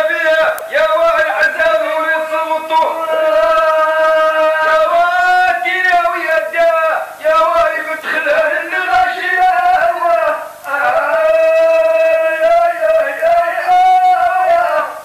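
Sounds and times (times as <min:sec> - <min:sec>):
man chanting sung poetry: 0:00.0 - 0:15.0.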